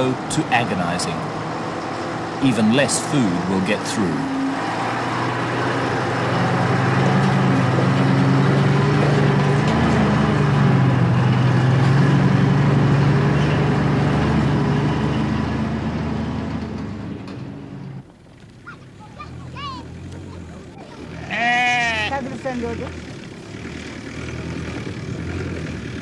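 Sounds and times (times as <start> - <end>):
heavy truck engine running: 0.0 - 26.0.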